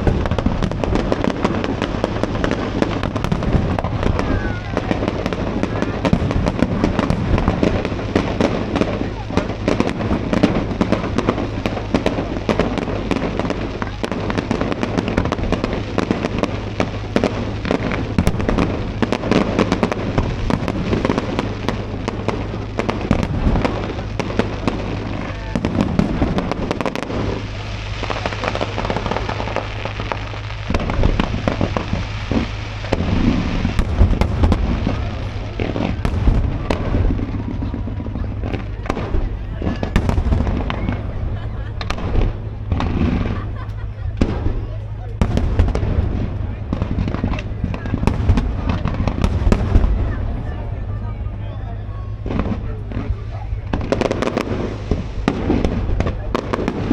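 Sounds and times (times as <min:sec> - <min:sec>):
fireworks crackling and banging: 0:00.0 - 0:56.9
low fireworks booms: 0:00.0 - 0:56.9.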